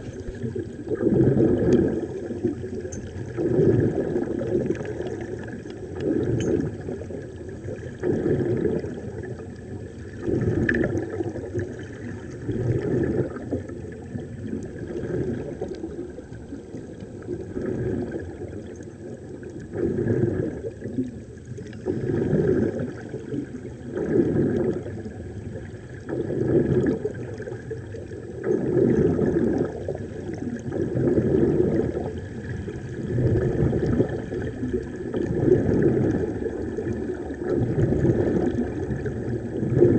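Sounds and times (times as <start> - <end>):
air bubbling underwater: 0.0 - 39.9.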